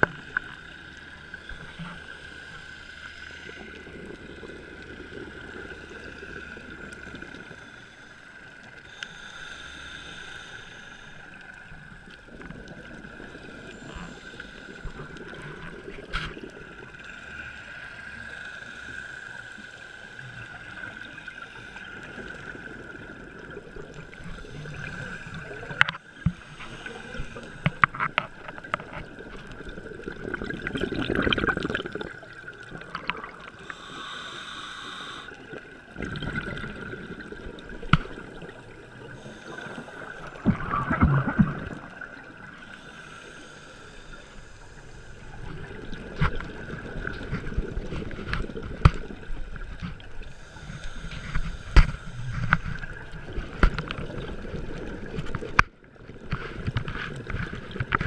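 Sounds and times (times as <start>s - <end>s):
muffled underwater hiss: 0.0s - 58.0s
scuba bubbles crackling: 0.0s - 58.0s.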